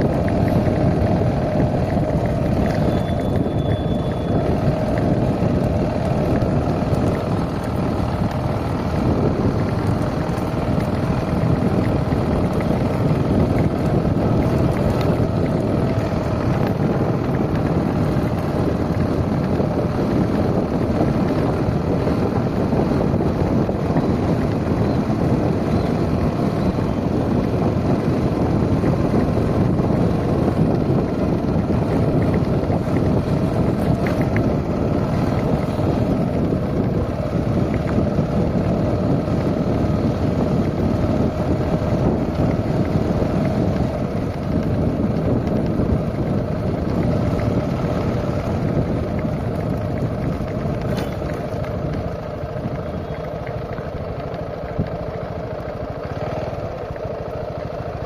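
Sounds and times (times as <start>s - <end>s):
motor running steadily: 0.0s - 58.0s
wind on microphone: 0.0s - 58.0s.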